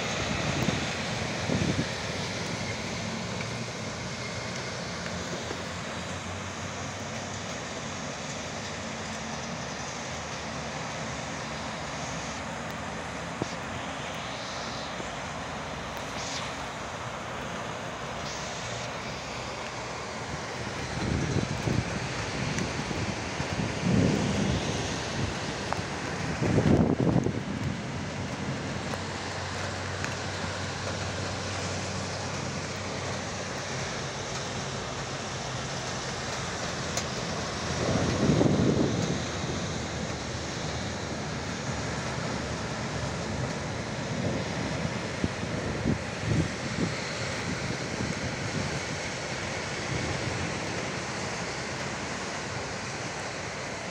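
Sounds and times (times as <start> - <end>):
heavy rain falling: 0.0 - 53.9
traffic on wet roads: 0.0 - 53.9.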